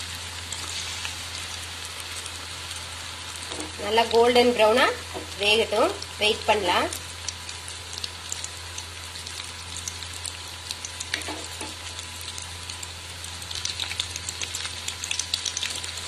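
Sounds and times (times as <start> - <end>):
food deep-frying in hot oil: 0.0 - 16.0
low steady hum: 0.0 - 16.0.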